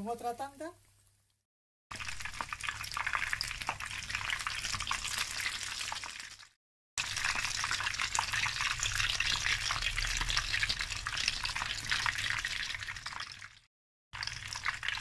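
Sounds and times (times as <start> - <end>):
deep-frying sizzle with crackles: 0.8 - 15.0.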